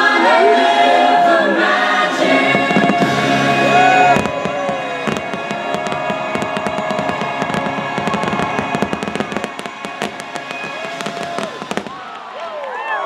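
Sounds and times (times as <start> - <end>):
fireworks show music: 1.4 - 12.6
fireworks bangs and crackles: 2.2 - 12.7.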